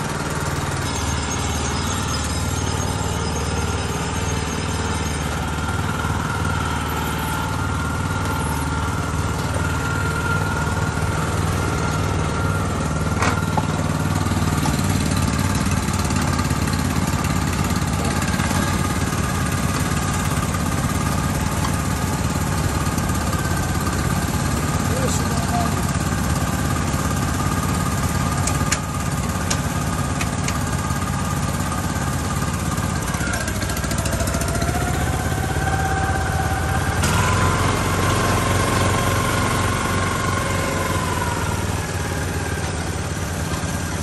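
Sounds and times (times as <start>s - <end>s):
snowblower engine idling: 0.0s - 44.0s.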